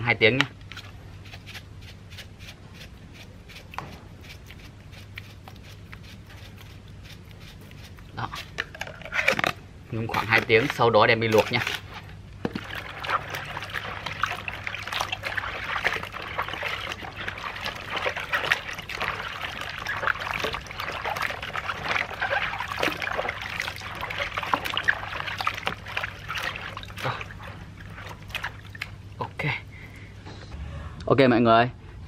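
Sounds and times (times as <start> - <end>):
hands rubbing shoots in water: 1.2 - 8.6, 10.1 - 29.0
water sloshing and splashing: 3.2 - 29.3.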